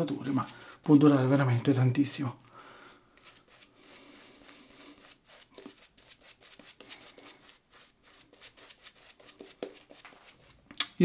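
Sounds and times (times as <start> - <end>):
shaving brush swishing on skin: 0.0 - 2.0, 3.2 - 10.6.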